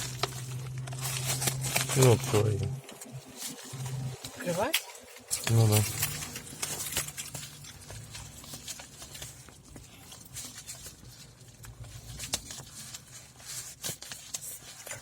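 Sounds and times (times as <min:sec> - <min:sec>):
packaging crinkling: 0:00.0 - 0:15.0
scratching on packaging: 0:00.0 - 0:15.0.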